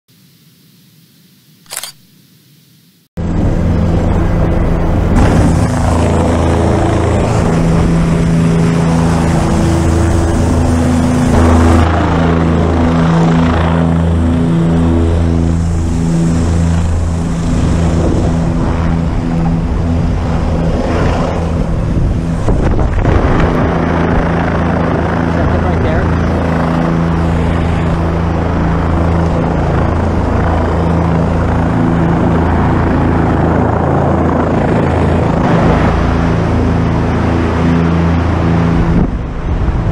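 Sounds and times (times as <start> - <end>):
helicopter rotor and turbine noise: 1.6 - 2.0, 3.2 - 39.9.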